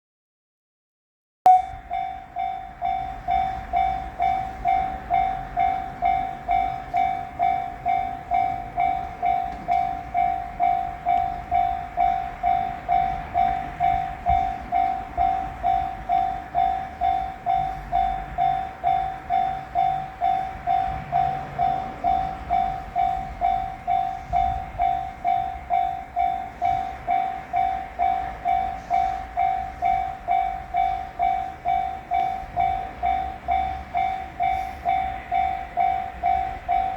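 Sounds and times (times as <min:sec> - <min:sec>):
railroad crossing warning bell: 0:01.5 - 0:36.9.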